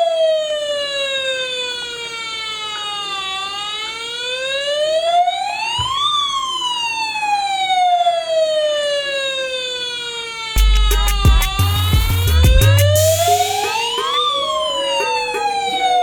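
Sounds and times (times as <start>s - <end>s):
toy fire truck wail siren: 0.0s - 10.5s, 13.0s - 16.0s.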